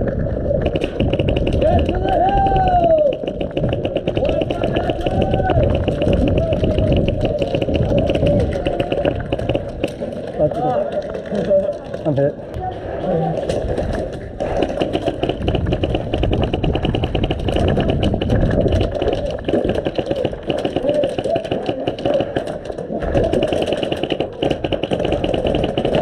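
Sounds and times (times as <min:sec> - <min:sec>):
airsoft guns firing full auto: 0:00.6 - 0:11.5, 0:13.4 - 0:26.0.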